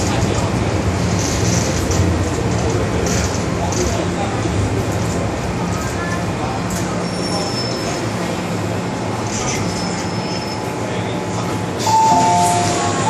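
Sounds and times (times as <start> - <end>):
train running hum: 0.0 - 13.0.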